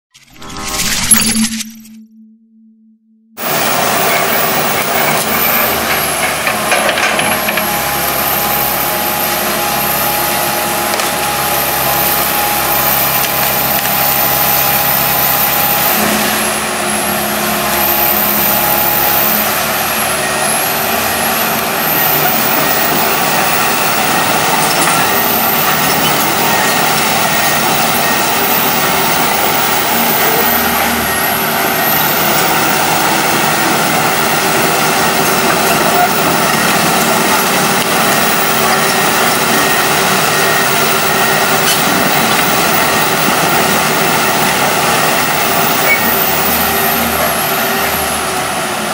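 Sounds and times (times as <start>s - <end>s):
excavator diesel engine running: 3.4s - 48.9s.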